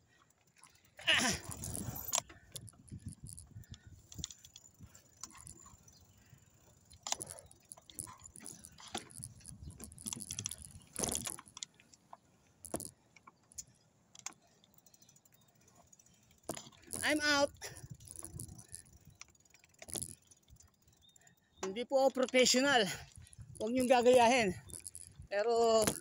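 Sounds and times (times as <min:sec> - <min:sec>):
bicycle rattling over rough ground: 0:00.0 - 0:26.0.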